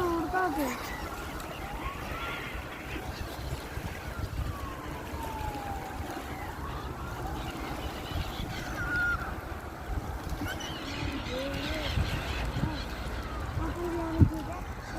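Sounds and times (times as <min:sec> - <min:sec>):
seagulls calling: 0:00.0 - 0:14.9
water noise: 0:00.0 - 0:14.9
wind rumbling on microphone: 0:00.0 - 0:14.9.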